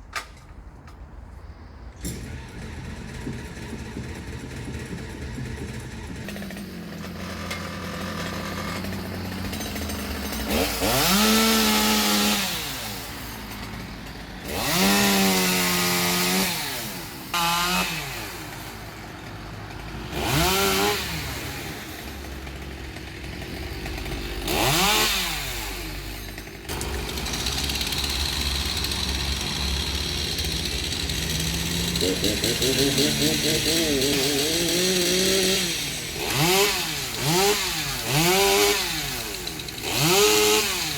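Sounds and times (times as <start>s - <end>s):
chainsaw idling and revving: 2.0s - 40.9s
steady engine: 2.0s - 40.9s.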